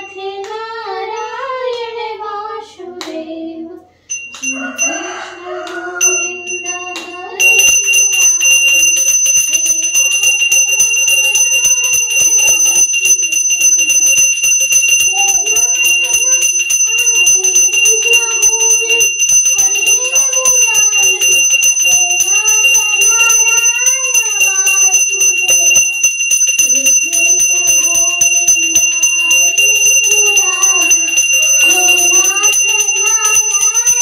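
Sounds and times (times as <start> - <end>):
devotional singing: 0.0 - 34.0
hand bell ringing rapidly: 4.1 - 34.0.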